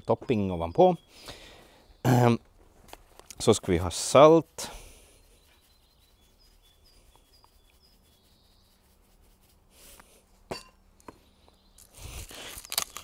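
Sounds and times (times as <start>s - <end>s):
small bird chirping: 0.3s - 4.2s, 4.8s - 9.6s, 10.8s - 13.0s.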